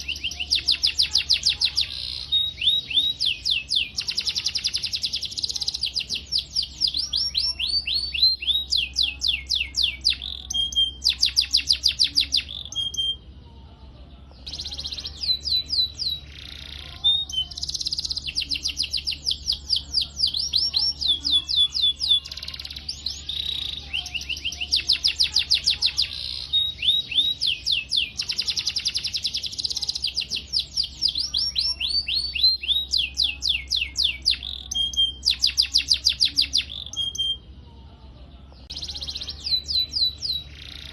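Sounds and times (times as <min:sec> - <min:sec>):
canary singing chirps and trills: 0:00.0 - 0:40.9.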